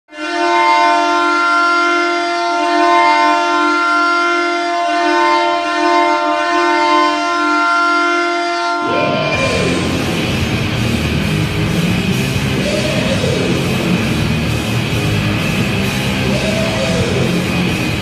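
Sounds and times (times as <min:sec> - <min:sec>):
goal horn blast: 0:00.1 - 0:10.7, 0:11.7 - 0:18.0.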